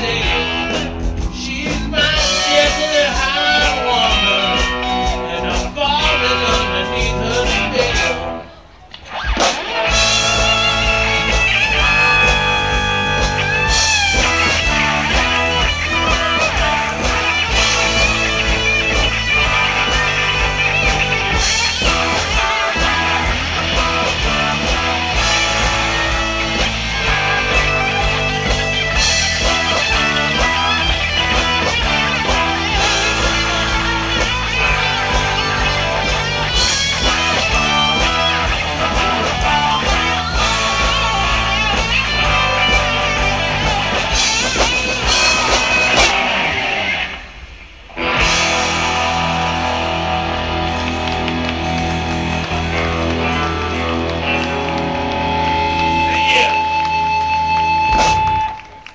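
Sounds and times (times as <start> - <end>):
electric bass: 0.0 - 8.5, 9.4 - 58.9
drums: 0.0 - 58.9
electric guitar lead: 0.0 - 58.9.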